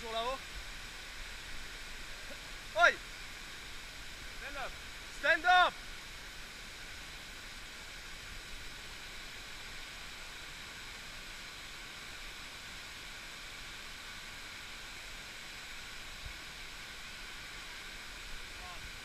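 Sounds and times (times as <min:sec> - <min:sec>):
waterfall rushing into pool: 0:00.0 - 0:19.0.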